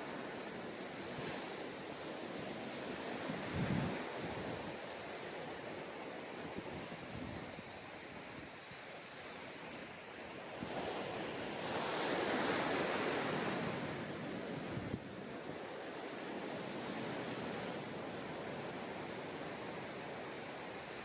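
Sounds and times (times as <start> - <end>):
sea surf on sandy beach: 0.0 - 21.0.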